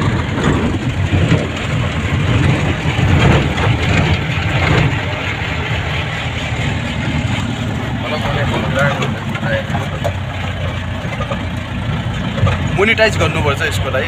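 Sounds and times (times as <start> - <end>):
engine drone: 0.0 - 14.0
road noise inside vehicle: 0.0 - 14.0.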